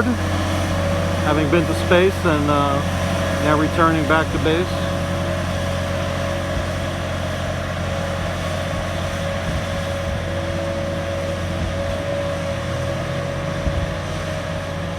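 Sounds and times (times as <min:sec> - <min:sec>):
constant whine: 0:00.0 - 0:14.9
vehicle engine hum: 0:00.0 - 0:14.9.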